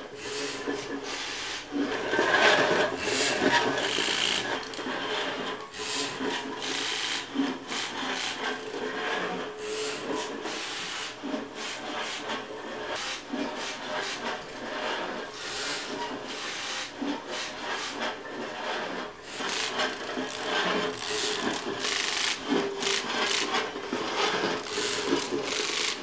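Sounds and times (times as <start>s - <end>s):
rough scraping and rubbing: 0.2s - 26.0s.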